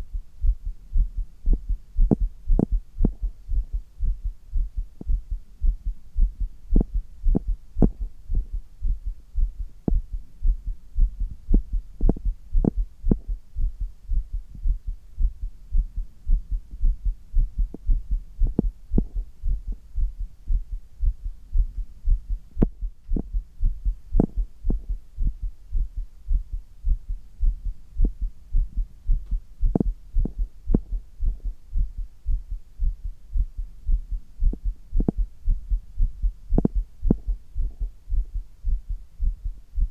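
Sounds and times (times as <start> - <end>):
heartbeat thuds: 0.0 - 39.9.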